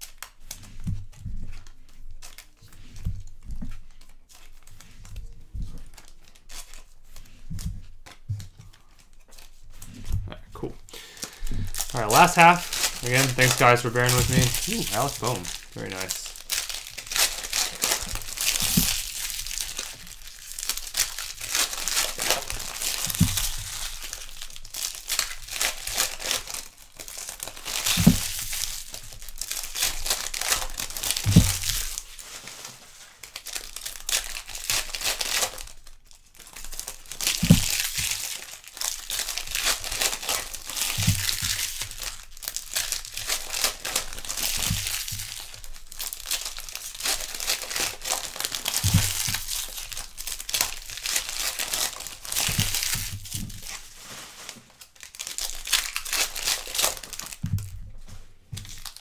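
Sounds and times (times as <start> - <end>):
wrappers crinkling and tearing: 0.0 - 10.2, 10.8 - 59.0.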